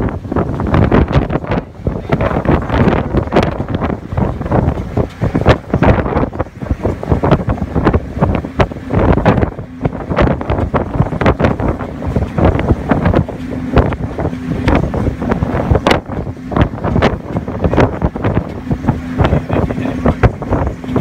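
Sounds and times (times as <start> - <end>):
faint boat engine hum: 0.0 - 21.0
wind buffeting microphone: 0.0 - 21.0.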